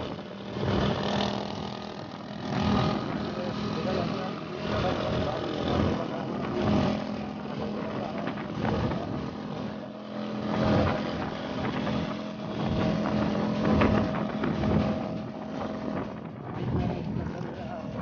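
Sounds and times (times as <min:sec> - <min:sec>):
motorcycle engine running: 0:00.0 - 0:18.0
rushing wind noise: 0:00.0 - 0:18.0.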